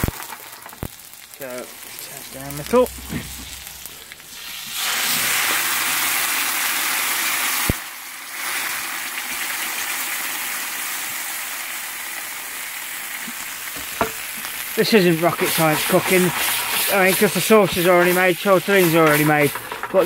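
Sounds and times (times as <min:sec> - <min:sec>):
sauce sizzling in a frying pan: 0:00.0 - 0:20.0.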